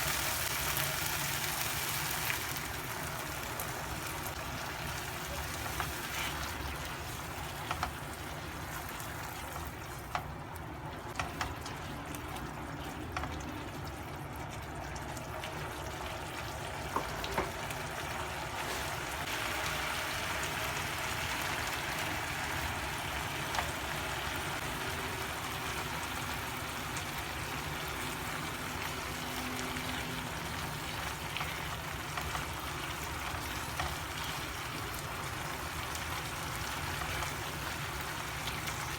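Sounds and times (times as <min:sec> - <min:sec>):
food sizzling in a pan: 0:00.0 - 0:10.3, 0:15.5 - 0:38.9.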